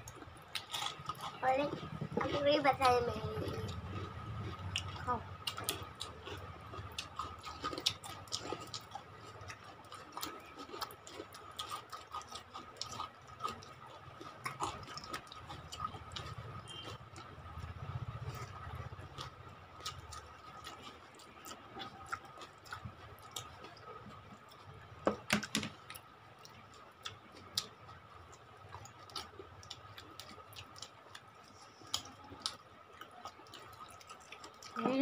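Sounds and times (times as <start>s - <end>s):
chewing and fingers working food: 0.0s - 35.0s.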